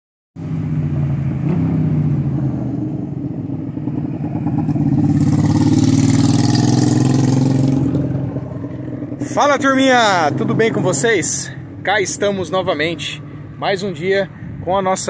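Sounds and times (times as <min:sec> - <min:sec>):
motorcycle approaching: 0:00.4 - 0:15.0
traffic engines running: 0:00.4 - 0:15.0.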